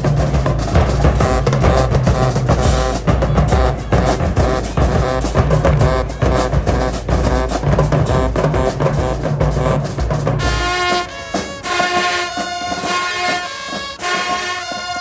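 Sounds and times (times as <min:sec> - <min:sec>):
brass playing held chords: 0:00.0 - 0:15.0
drums pounding: 0:00.0 - 0:15.0
marching band playing: 0:00.0 - 0:15.0.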